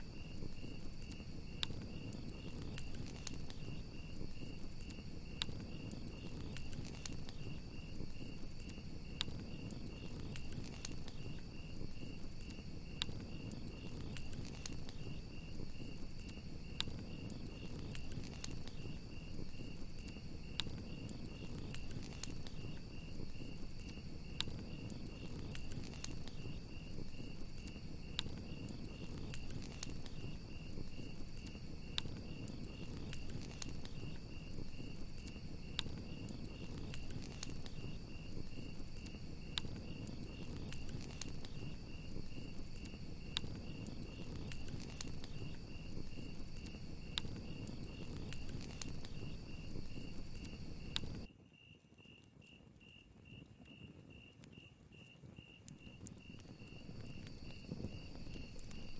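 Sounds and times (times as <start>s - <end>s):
campfire crackling and popping: 0.0s - 51.4s, 52.2s - 58.9s
crickets trilling: 0.0s - 58.9s.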